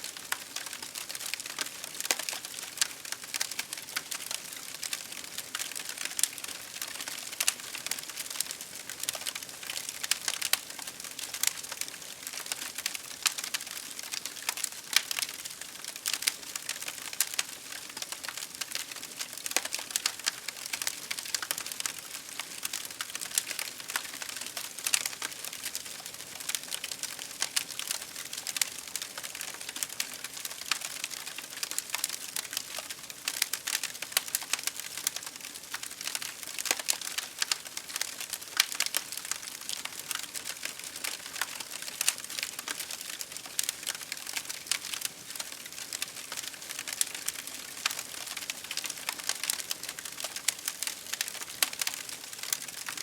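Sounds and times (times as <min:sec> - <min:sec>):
campfire crackling: 0:00.1 - 0:53.0.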